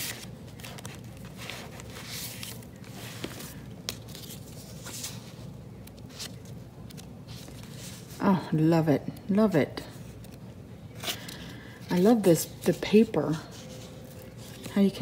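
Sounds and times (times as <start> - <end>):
paper rustling: 0.0 - 8.2, 10.0 - 15.0.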